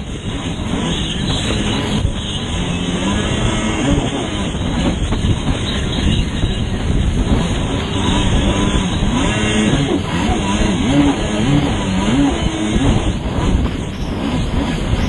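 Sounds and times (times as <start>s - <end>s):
two-stroke engine running hard: 0.0s - 15.0s
wind on microphone: 0.0s - 15.0s.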